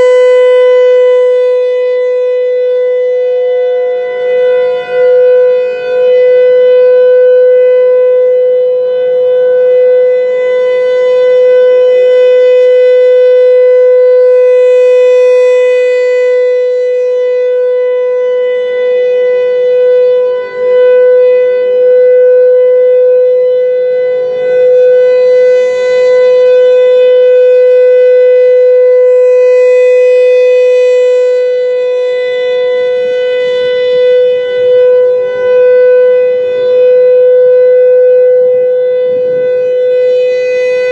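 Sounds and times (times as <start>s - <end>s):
rotating tornado siren: 0.0s - 40.9s.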